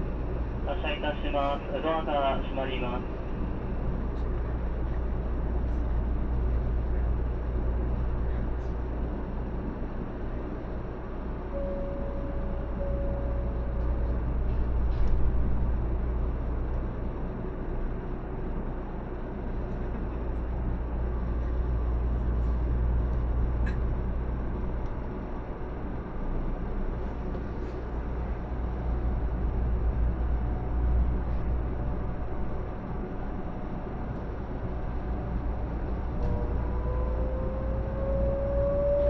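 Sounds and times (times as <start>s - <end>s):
faint train whine: 0.0s - 39.0s
train car low hum: 0.0s - 39.0s.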